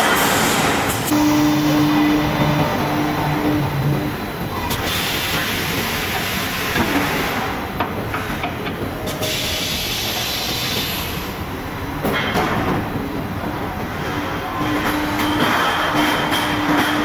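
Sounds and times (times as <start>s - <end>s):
production line mechanical din: 0.0s - 17.0s.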